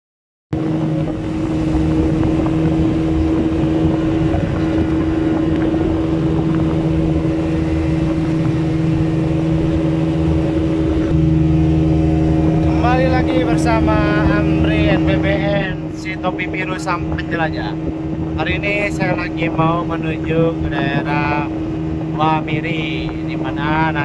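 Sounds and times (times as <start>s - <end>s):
motorboat engine running: 0.5s - 24.0s.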